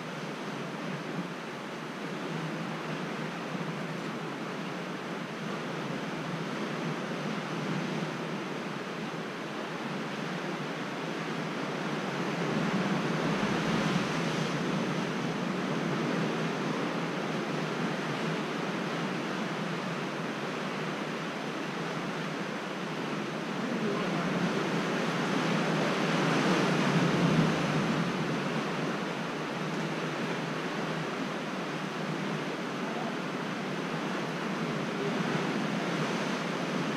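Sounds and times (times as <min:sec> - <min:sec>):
sea surf rushing: 0:00.0 - 0:36.9.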